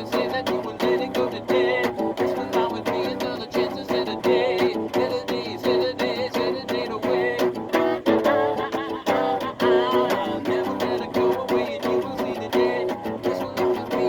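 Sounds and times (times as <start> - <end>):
instrumental guitar music: 0.0 - 14.0.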